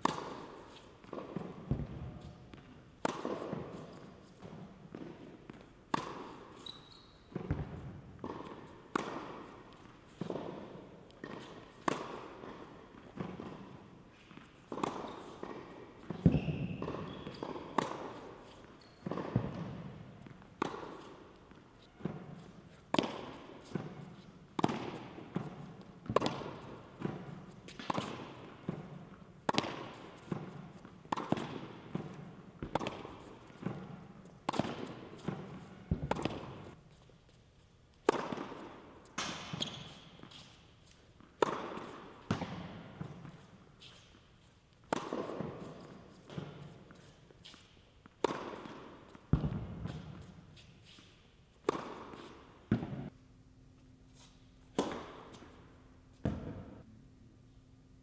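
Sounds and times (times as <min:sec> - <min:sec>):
tennis ball hit by racket: 0:00.0 - 0:06.6, 0:07.3 - 0:36.8, 0:38.0 - 0:44.2, 0:44.8 - 0:53.1, 0:54.2 - 0:55.6, 0:56.2 - 0:56.8
tennis ball bouncing on court: 0:00.0 - 0:36.8, 0:37.9 - 0:53.1, 0:54.2 - 0:56.8.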